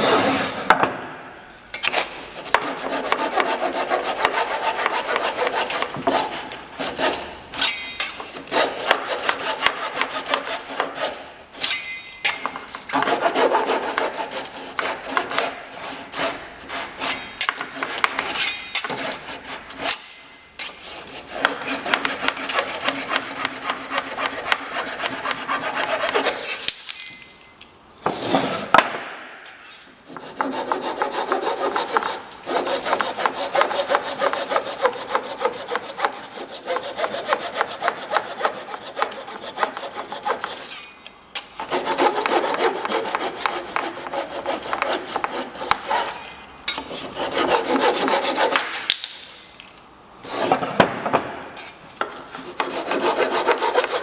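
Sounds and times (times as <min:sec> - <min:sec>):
hand tool scraping wood: 0:00.0 - 0:00.7, 0:01.8 - 0:26.9, 0:29.6 - 0:49.4, 0:50.2 - 0:50.8, 0:51.6 - 0:54.0.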